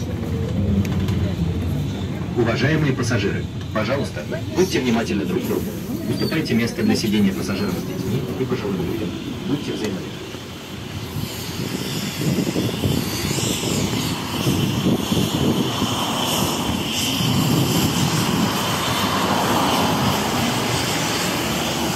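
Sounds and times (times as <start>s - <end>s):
bus diesel engine rumbling: 0.0s - 21.9s.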